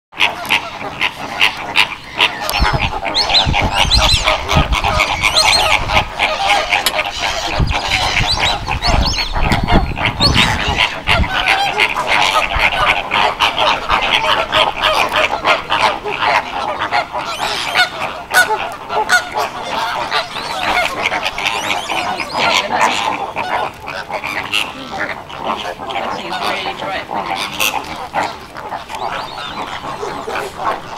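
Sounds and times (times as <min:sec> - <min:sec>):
flamingos honking: 0:00.2 - 0:30.9.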